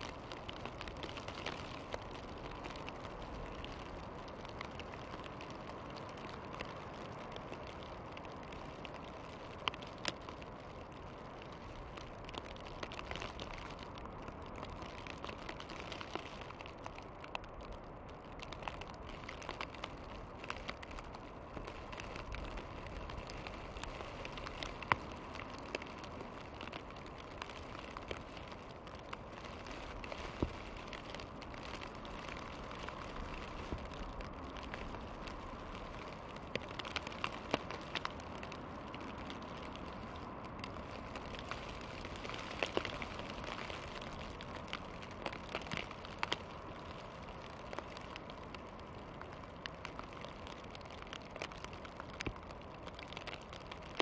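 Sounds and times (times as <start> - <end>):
soft hiss of snowfall: 0.0 - 54.0
wet snow ticking and tapping: 0.0 - 54.0.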